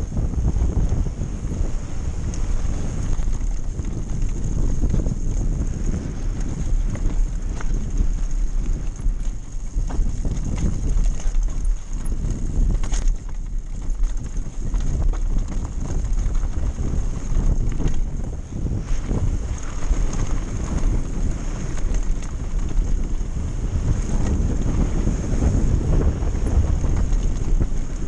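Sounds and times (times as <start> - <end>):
bike rattling and knocking: 0.0 - 28.0
bike tyres rumbling over dirt: 0.0 - 28.0
wind buffeting microphone: 0.0 - 28.0.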